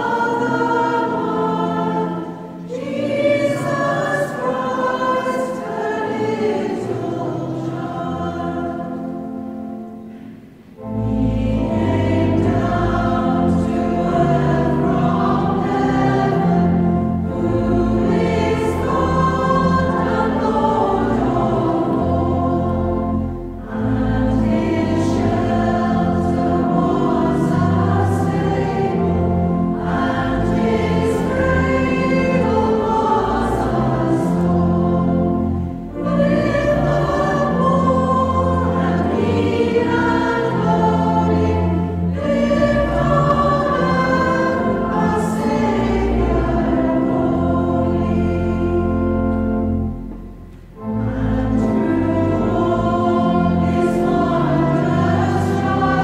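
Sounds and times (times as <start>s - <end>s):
church choir singing a carol: 0.0s - 56.0s.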